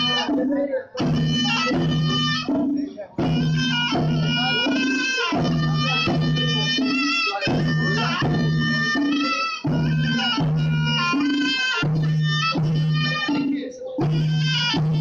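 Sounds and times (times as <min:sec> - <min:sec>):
drums: 0:00.0 - 0:15.0
shrill reed wind instrument melody: 0:00.0 - 0:15.0.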